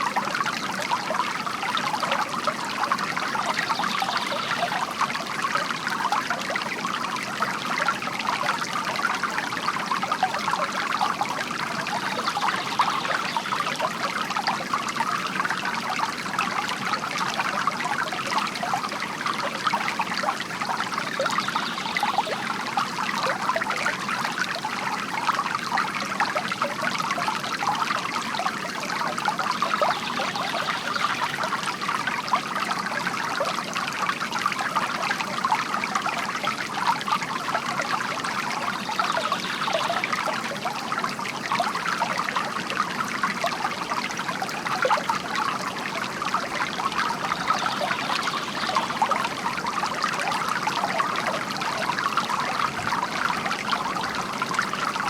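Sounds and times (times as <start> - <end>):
fountain water trickling into basin: 0.0 - 55.0.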